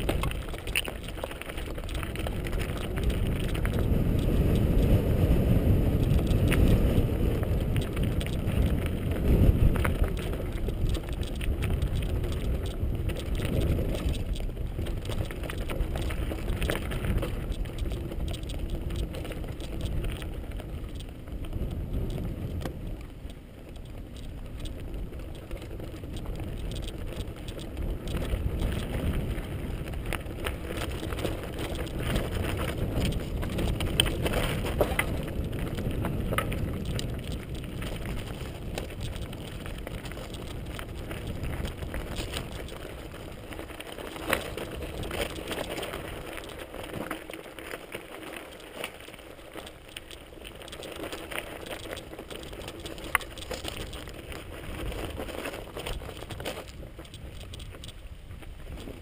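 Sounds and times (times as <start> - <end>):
bike rattles and knocks: 0.0 - 59.0
bike tyres crunching over gravel: 0.0 - 59.0.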